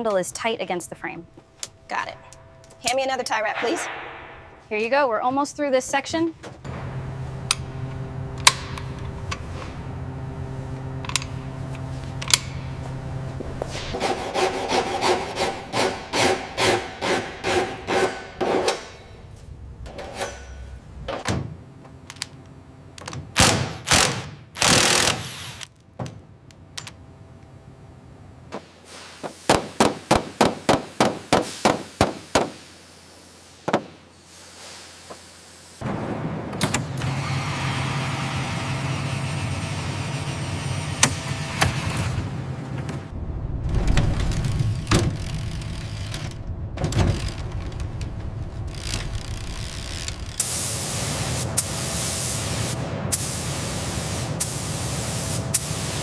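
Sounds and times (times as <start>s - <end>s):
steady low hum: 0.0s - 25.1s, 25.8s - 56.0s.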